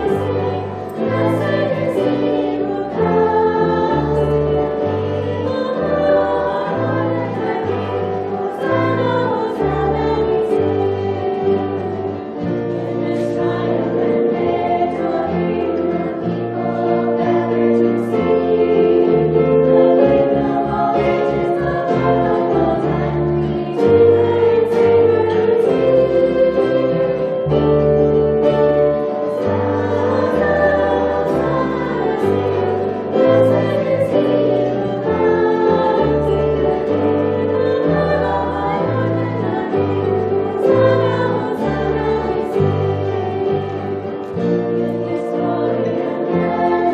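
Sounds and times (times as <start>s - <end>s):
choir singing a hymn: 0.0s - 46.9s
instrumental accompaniment: 0.0s - 46.9s.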